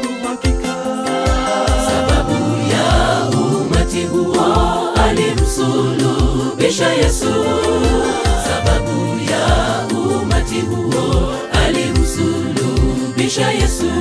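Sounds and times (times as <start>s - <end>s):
backing music with drum beat: 0.0s - 14.0s
gospel choir singing: 0.0s - 14.0s.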